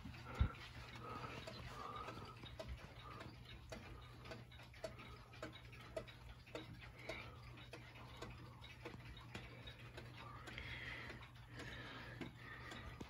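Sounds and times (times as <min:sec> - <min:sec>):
wall clock ticking: 0:00.0 - 0:13.0.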